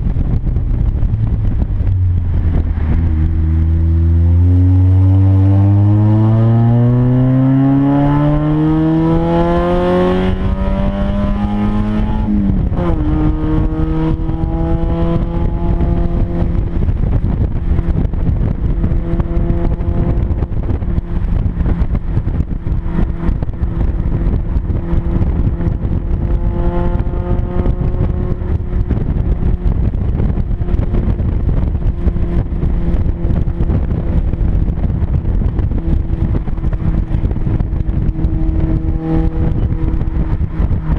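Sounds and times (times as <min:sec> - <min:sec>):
loud car engine revving: 0:00.3 - 0:40.9.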